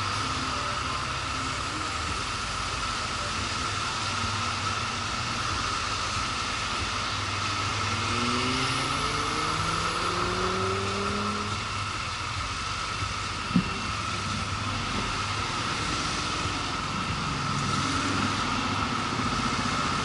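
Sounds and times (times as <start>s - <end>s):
motorcycle engine: 0.0s - 20.0s
road noise: 0.0s - 20.0s.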